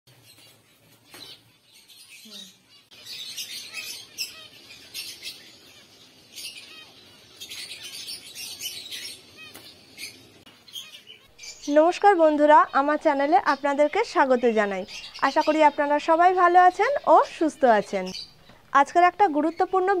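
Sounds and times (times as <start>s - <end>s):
small birds twittering: 0.1s - 20.0s.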